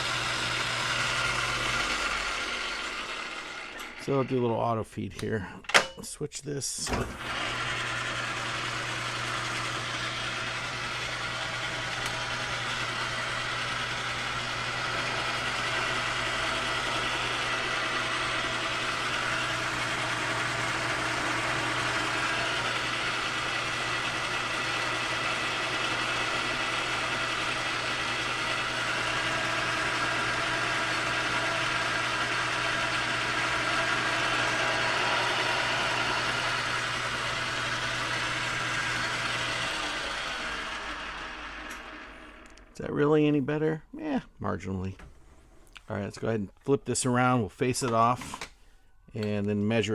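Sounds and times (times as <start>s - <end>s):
lathe machine hum: 0.0s - 4.3s, 6.8s - 42.8s.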